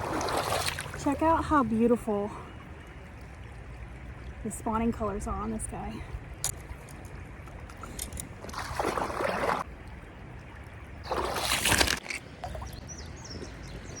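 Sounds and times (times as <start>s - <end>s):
creek flowing: 0.0s - 14.0s
water sloshing and splashing: 0.0s - 14.0s.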